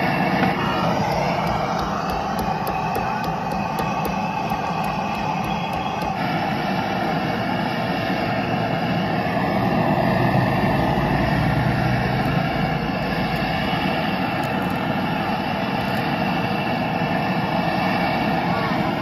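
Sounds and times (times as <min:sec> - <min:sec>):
gas burner roaring: 0:00.0 - 0:19.0.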